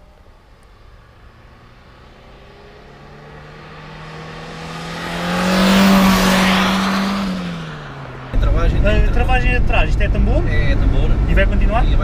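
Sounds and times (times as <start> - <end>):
car engine approaching: 0.0 - 12.0.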